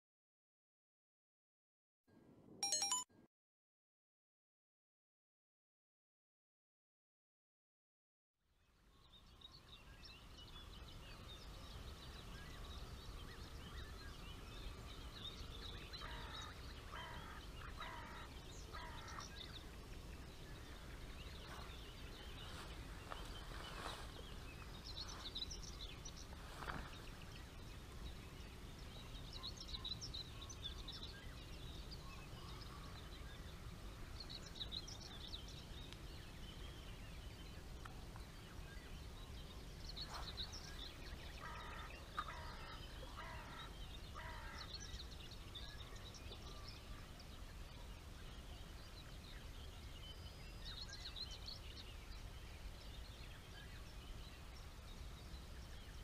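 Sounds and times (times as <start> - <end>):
birds singing and calling: 9.0 - 56.0.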